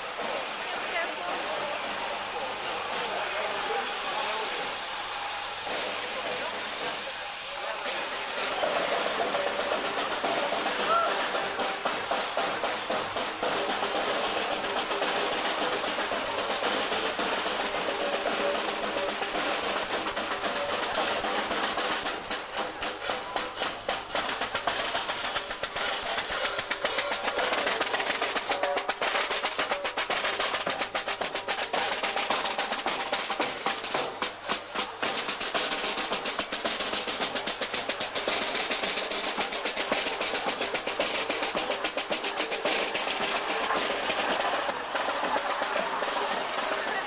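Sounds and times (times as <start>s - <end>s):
marching snare drums: 7.8s - 47.0s.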